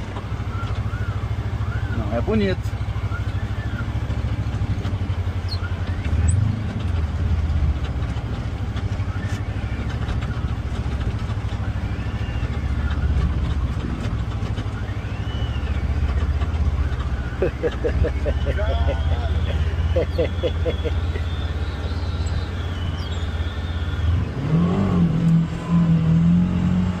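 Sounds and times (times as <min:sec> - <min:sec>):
utility vehicle engine droning: 0:00.0 - 0:27.0.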